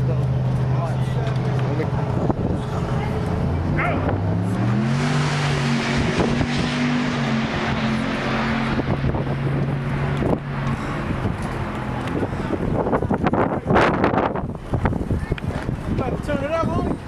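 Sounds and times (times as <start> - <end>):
car engine revving: 0.0 - 16.0
wind on microphone: 1.8 - 17.0.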